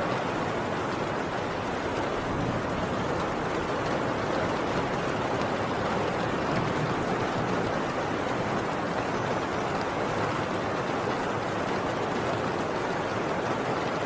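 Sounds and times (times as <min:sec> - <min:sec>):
heavy rain on a tin roof: 0:00.0 - 0:14.0.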